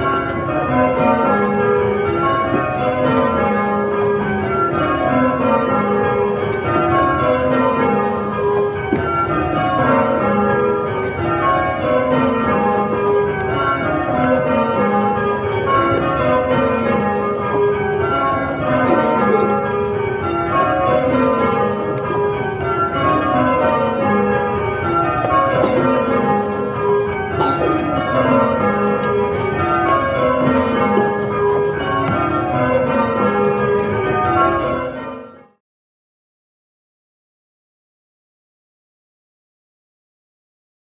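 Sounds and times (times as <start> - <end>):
church bells ringing in rounds: 0.0 - 35.6.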